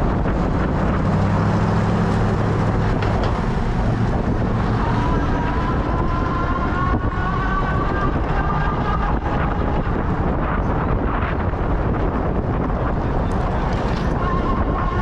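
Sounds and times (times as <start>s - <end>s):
road and traffic noise: 0.0s - 15.0s
wind rushing over microphone: 0.0s - 15.0s.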